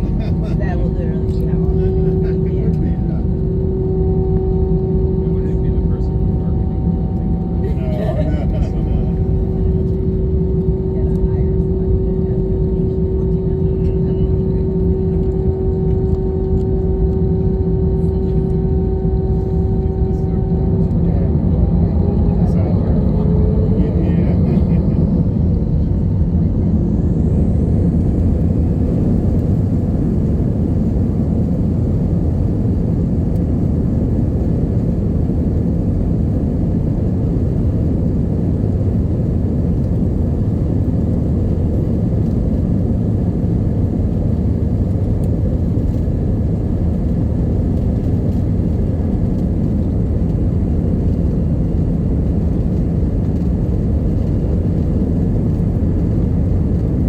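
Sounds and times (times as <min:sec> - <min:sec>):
plane engines and rushing air: 0:00.0 - 0:57.0.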